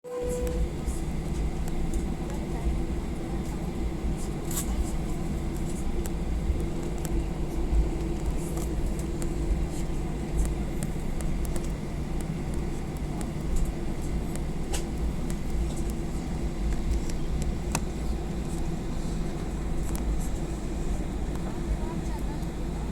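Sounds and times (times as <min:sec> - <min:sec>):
airliner cabin rumble: 0:00.0 - 0:22.9.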